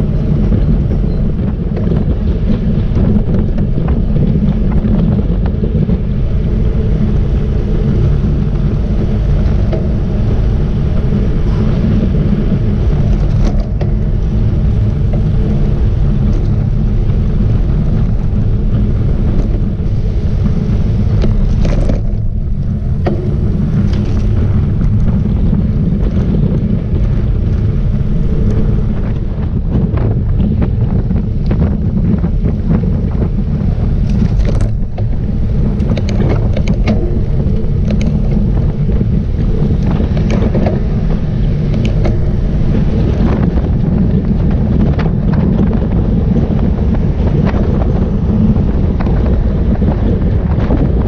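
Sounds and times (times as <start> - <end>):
wind buffeting microphone: 0.0 - 51.0.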